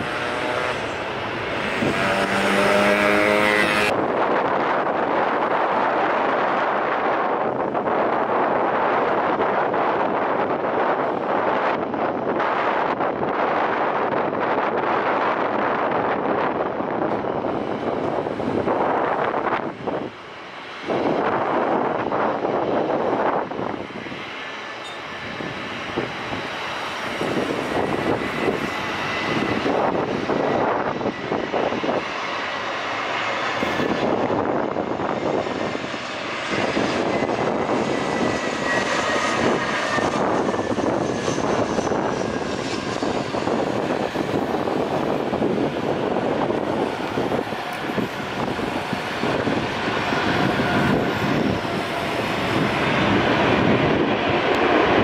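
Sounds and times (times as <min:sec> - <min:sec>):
jet engines roaring on landing: 0:00.0 - 0:55.0.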